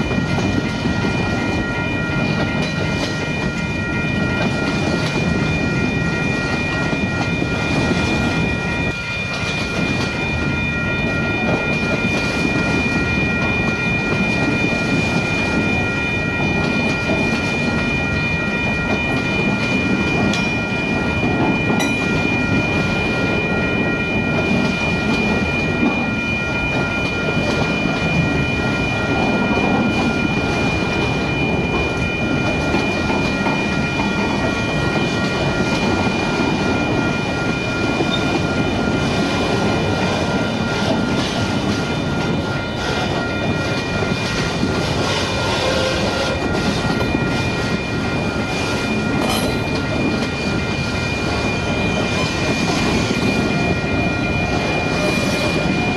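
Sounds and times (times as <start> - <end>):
freight train wheels rumbling: 0.0 - 55.9
high ringing tones: 0.0 - 55.9.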